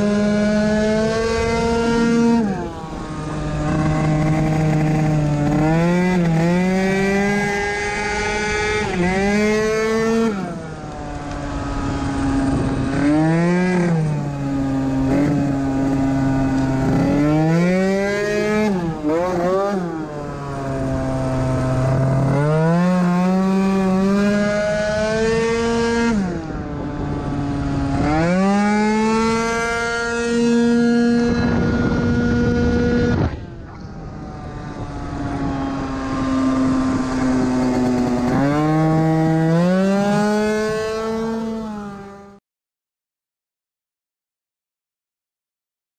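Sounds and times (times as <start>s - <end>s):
scooter engine at full throttle: 0.0s - 42.4s.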